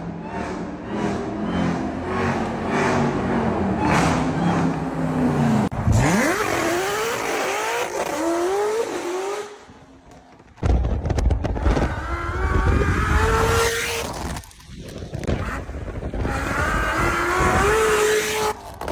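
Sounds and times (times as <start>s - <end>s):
car engine revving and accelerating: 0.0s - 9.6s, 11.7s - 14.3s, 15.4s - 18.6s.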